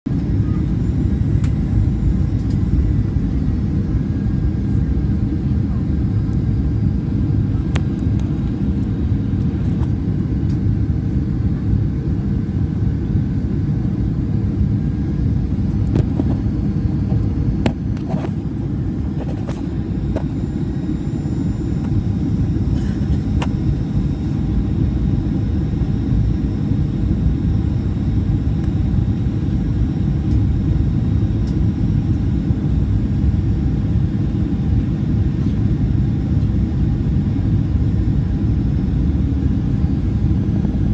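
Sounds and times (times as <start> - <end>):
airplane cabin rumble: 0.1 - 40.9.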